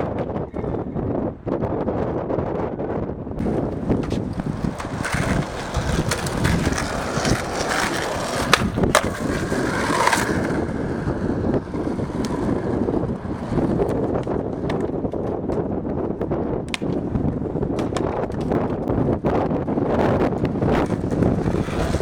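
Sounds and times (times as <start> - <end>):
skateboard wheels rolling on pavement: 0.0 - 22.0
skateboard clacks: 3.4 - 22.0.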